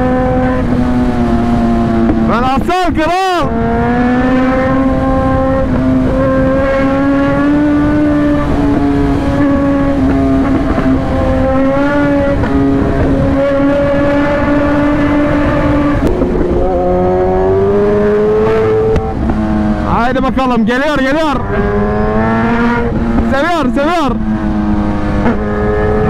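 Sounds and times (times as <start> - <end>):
motorcycle engine at high revs: 0.0 - 2.5, 3.4 - 26.0.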